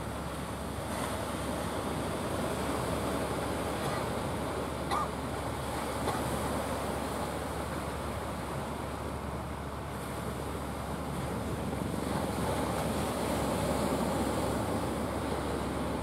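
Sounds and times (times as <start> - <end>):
surf washing on shore: 0.0 - 16.0.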